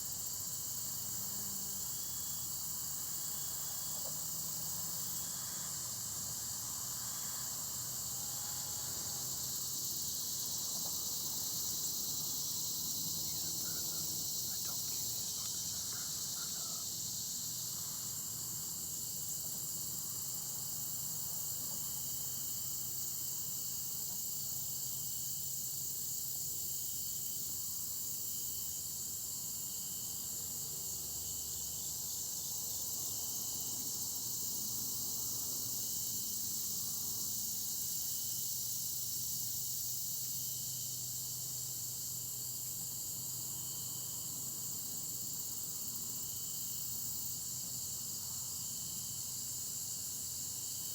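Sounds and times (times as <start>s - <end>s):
cricket chirps: 0.0s - 50.9s
crickets trilling: 0.0s - 50.9s.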